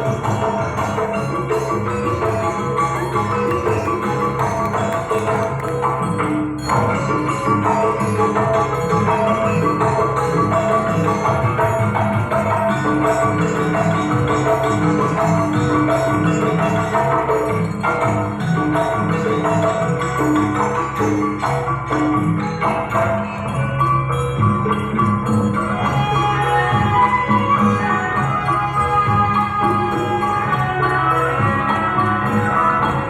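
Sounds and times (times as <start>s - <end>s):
mallet percussion dance music: 0.0s - 33.0s.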